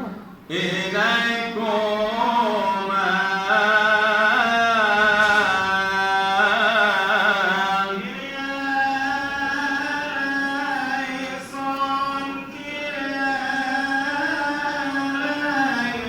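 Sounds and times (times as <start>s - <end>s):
man chanting: 0.5s - 16.0s.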